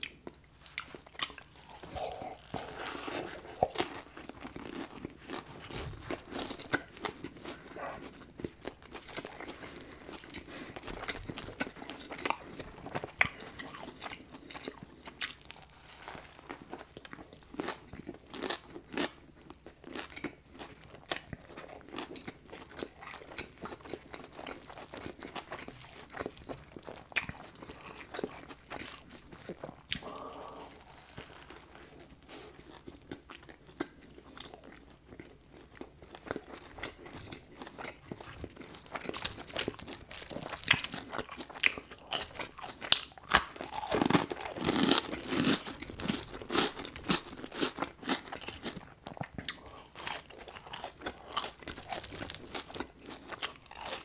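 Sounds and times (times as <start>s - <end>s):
crunching fried breading: 0.0s - 54.0s
soft chewing: 0.0s - 54.0s.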